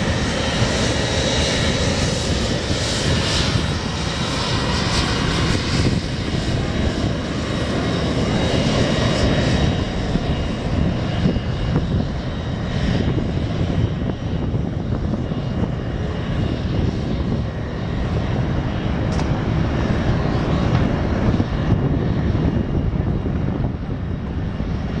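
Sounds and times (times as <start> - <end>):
jet engine high whine: 0.0 - 25.0
jet engine roar: 0.0 - 25.0.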